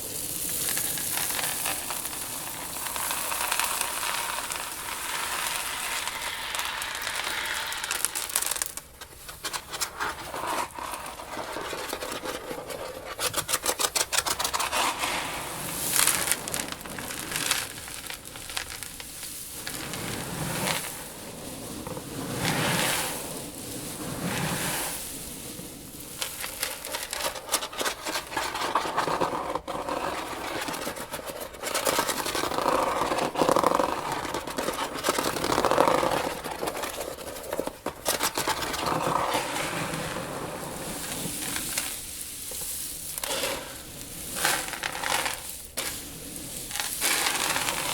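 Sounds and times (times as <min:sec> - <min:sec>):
dry seeds rustling and crackling: 0:00.0 - 0:47.9.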